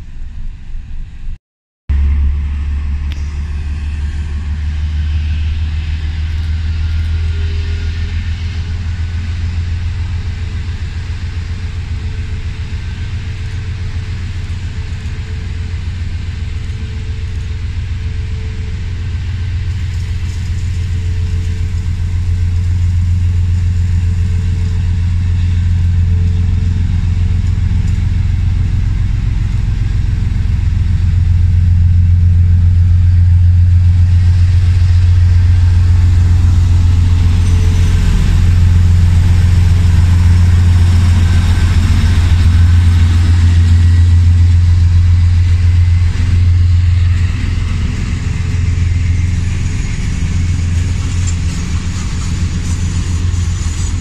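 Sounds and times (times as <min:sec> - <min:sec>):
locomotive low rumble: 0:00.0 - 0:54.0.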